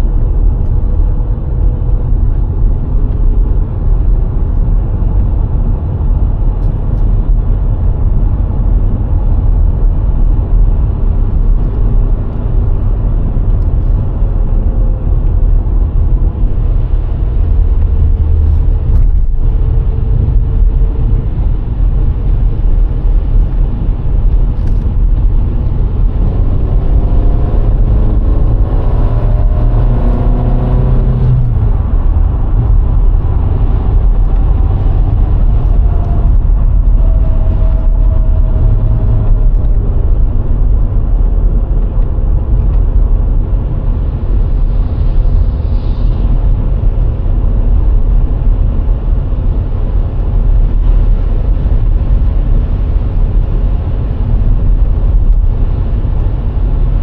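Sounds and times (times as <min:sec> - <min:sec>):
car engine running: 0:00.0 - 0:57.0
tyre and road noise: 0:00.0 - 0:57.0.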